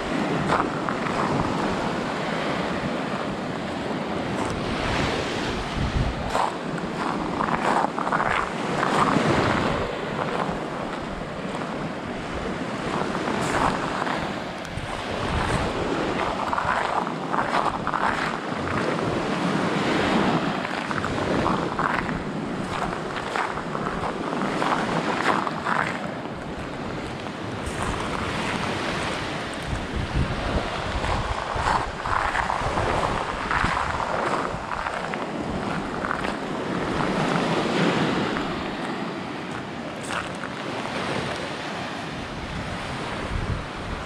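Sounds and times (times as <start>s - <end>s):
small waves breaking on sand: 0.0s - 44.0s
wind rumbling on microphone: 0.0s - 44.0s.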